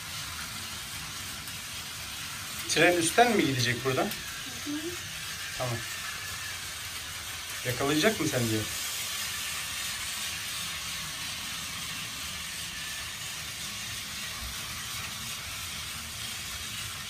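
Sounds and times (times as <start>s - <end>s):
toy trains whirring: 0.0s - 17.0s.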